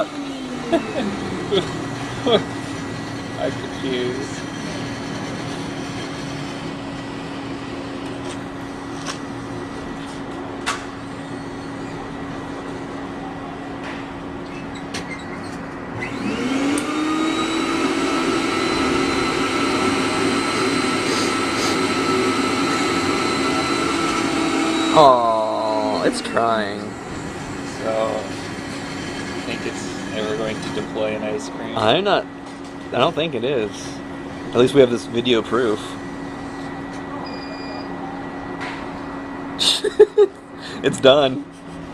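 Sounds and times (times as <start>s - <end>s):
machine mechanism humming: 0.0s - 41.9s
motor whine and drone: 0.0s - 41.9s.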